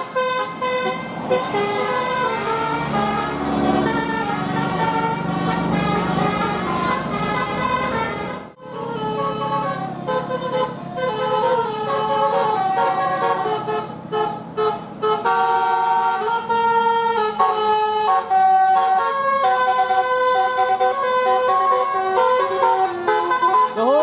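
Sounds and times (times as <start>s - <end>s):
musical air horns playing a tune: 0.0s - 24.0s.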